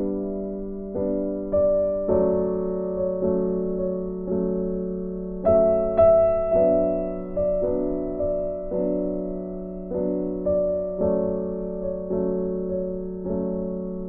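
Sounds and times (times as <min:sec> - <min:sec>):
soft piano: 0:00.0 - 0:14.0.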